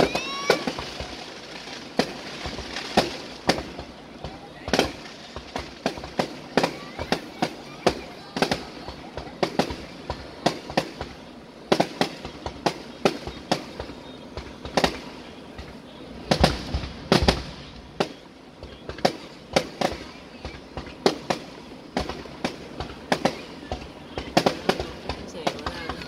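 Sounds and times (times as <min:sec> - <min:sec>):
deep fireworks booms: 0:00.0 - 0:26.0
fireworks sharp bangs: 0:00.0 - 0:26.0.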